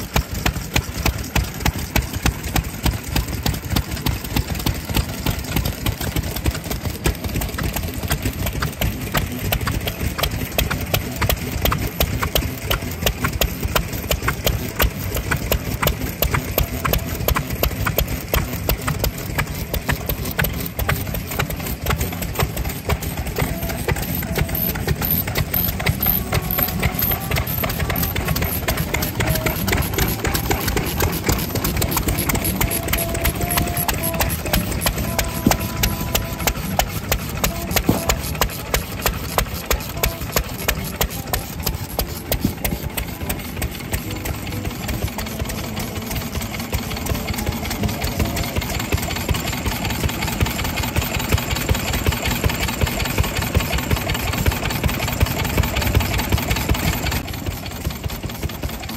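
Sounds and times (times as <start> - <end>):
single-cylinder engines idling: 0.0 - 58.9.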